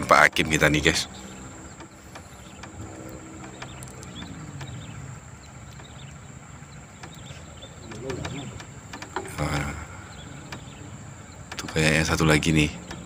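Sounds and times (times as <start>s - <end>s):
light clicks: 0.0s - 13.0s
motorboat engine running: 0.0s - 13.0s.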